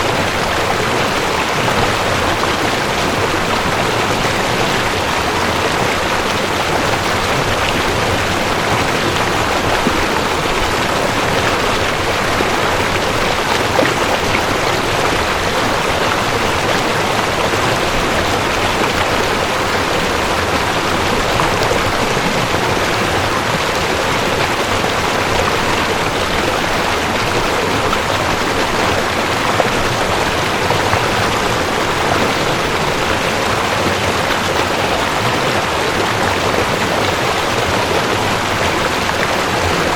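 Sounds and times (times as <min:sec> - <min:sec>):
mountain stream rushing over rocks: 0:00.0 - 0:39.9.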